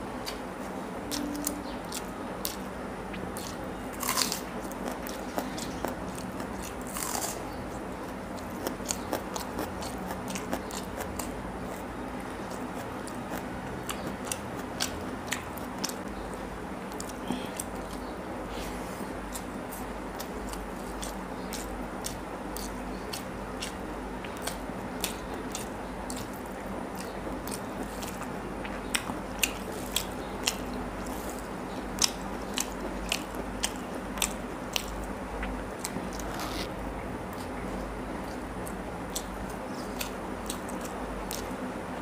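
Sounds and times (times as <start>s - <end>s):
wet chewing and smacking: 1.1s - 18.1s, 19.2s - 41.6s.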